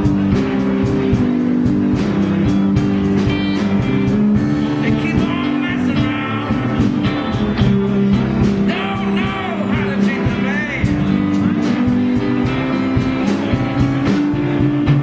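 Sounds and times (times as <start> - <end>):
bending lead guitar notes: 0.0 - 15.0
live blues band playing: 0.0 - 15.0
steady drum beat: 0.0 - 15.0.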